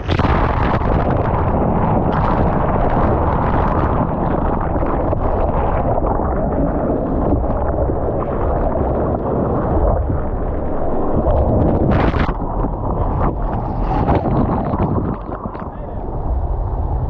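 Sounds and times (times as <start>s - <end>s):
churning surf water: 0.0s - 17.0s
wind buffeting microphone: 0.0s - 17.0s.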